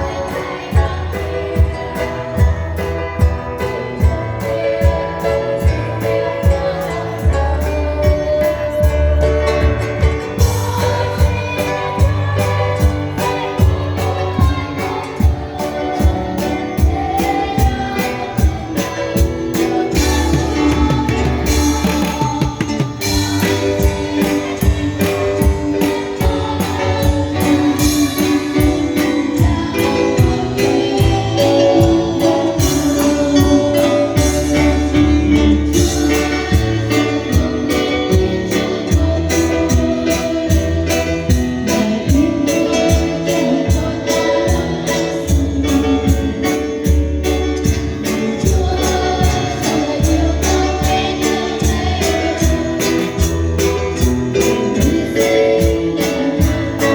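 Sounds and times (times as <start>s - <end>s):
worship song with band: 0.0s - 56.9s.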